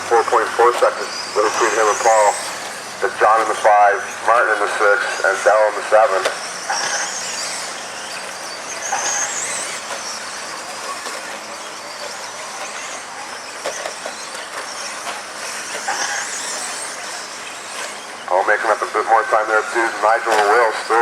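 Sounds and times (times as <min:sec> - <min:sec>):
high whine of toy truck motors: 0:00.0 - 0:21.0.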